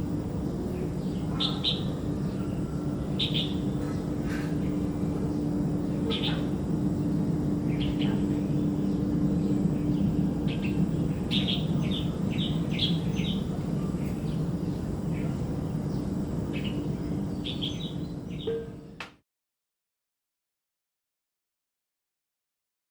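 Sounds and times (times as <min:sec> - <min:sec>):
steady low hum: 0:00.0 - 0:19.0
small birds chirping: 0:00.3 - 0:19.0.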